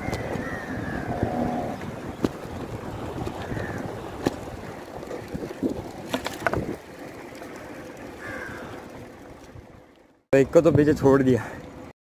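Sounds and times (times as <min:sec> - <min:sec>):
wind buffeting microphone: 0:00.0 - 0:09.9
bicycle tyre and road noise: 0:00.0 - 0:11.9.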